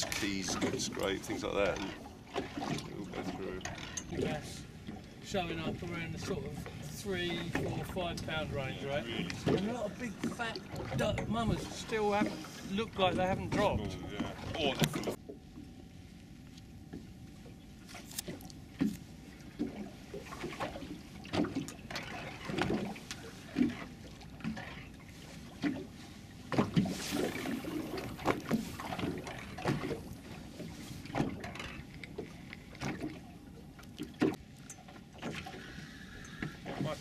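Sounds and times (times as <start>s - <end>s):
waves slapping against boat hull: 0.0s - 37.0s.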